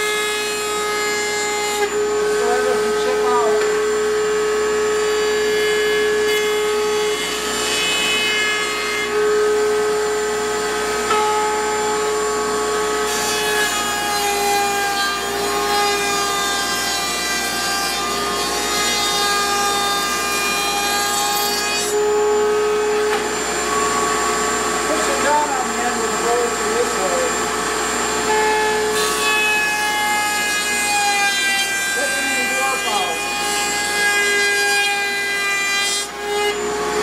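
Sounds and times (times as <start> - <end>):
router bit cutting wood: 0.0 - 37.0
router whining: 0.0 - 37.0.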